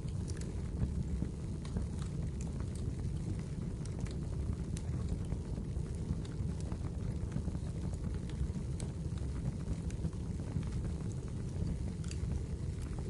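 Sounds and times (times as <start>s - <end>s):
firewood crackling and popping: 0.0s - 13.0s.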